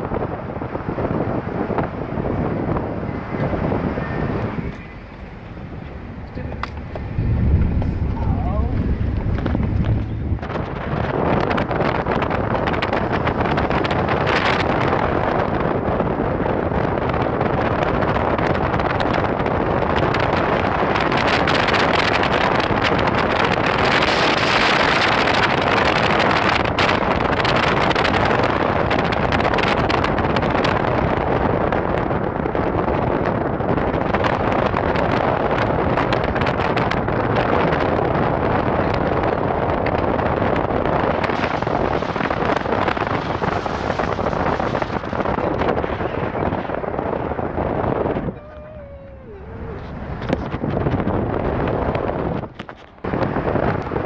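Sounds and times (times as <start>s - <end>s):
car tyre and road noise: 0.0s - 54.0s
wind rushing over microphone: 0.0s - 54.0s.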